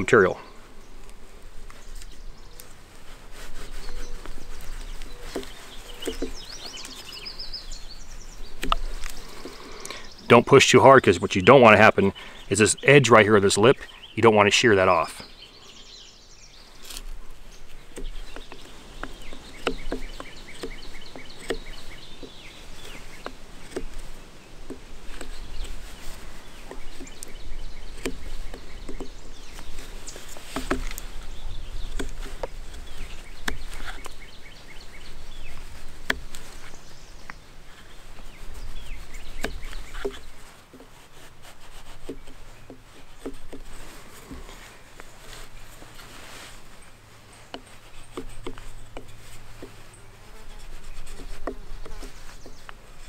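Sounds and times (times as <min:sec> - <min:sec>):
birds chirping: 0:00.0 - 0:53.0
knife scraping wood: 0:01.0 - 0:10.0, 0:16.7 - 0:53.0.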